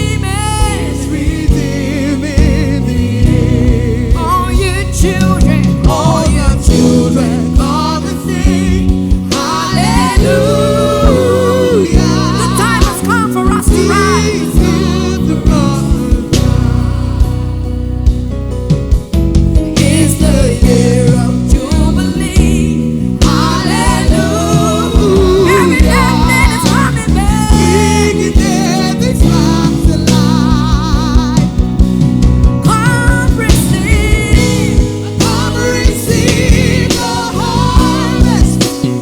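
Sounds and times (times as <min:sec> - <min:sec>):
bass and drum beat: 0:00.0 - 0:39.0
guitar: 0:00.0 - 0:39.0
keyboard chords: 0:00.0 - 0:39.0
worship band playing: 0:00.0 - 0:39.0.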